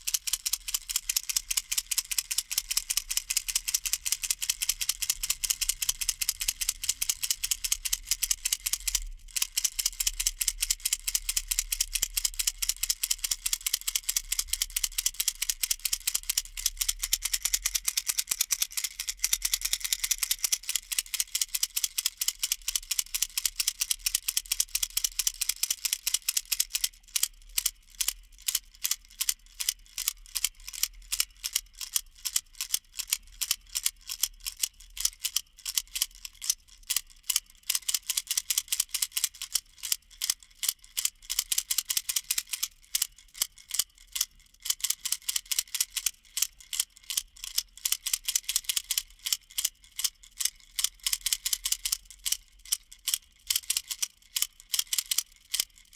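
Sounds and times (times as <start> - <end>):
baby rattle shaking: 0.0 - 55.9.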